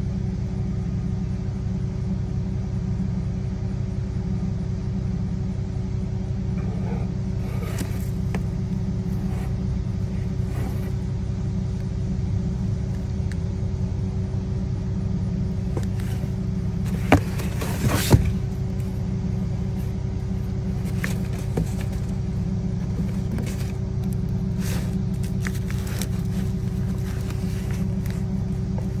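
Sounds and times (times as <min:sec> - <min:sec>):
low rumble with hum: 0:00.0 - 0:29.0.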